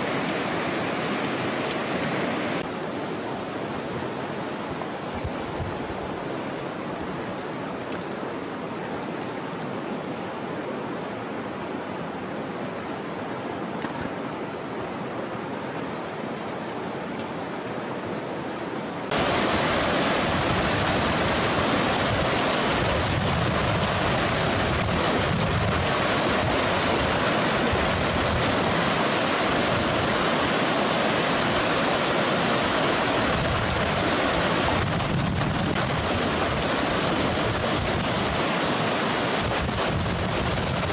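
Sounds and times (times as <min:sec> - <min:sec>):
flowing river water: 0:00.0 - 0:40.9
rapids churning: 0:00.0 - 0:40.9.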